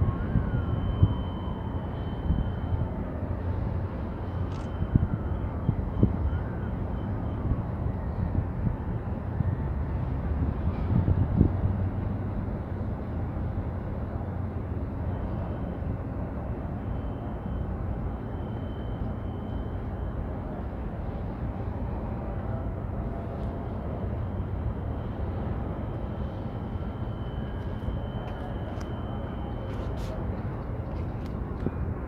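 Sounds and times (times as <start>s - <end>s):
low harbour rumble: 0.0s - 32.0s.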